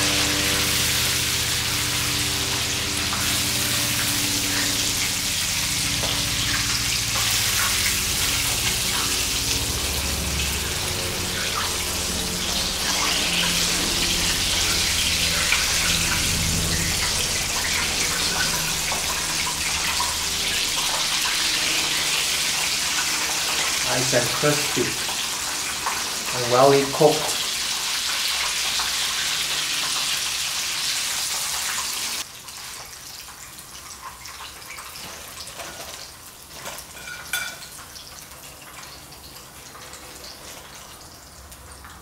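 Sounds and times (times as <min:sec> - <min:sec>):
chicken deep-frying in oil: 0:00.0 - 0:42.0.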